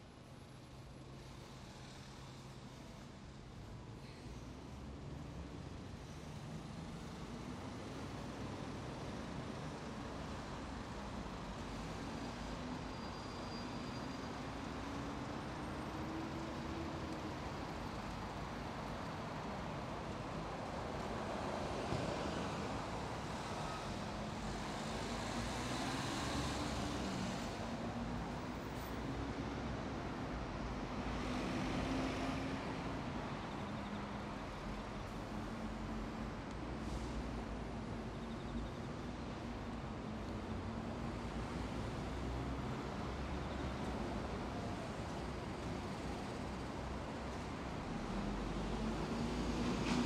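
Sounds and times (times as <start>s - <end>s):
city road traffic: 0.0s - 50.0s
tyre noise of passing vehicles: 0.1s - 50.0s.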